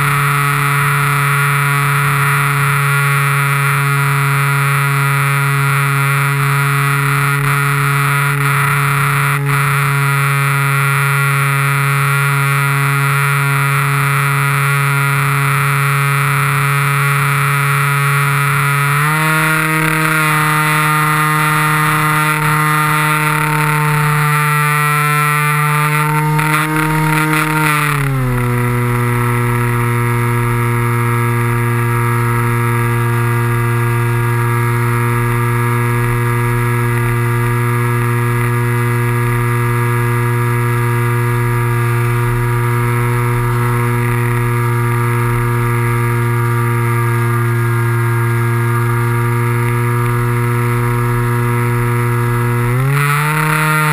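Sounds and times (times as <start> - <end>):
model plane motor and propeller drone: 0.0 - 53.9.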